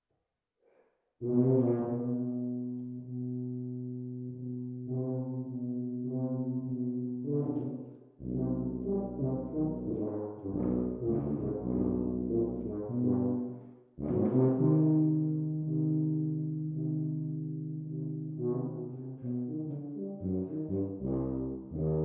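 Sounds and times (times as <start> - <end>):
tubas playing a duo: 1.2 - 22.0.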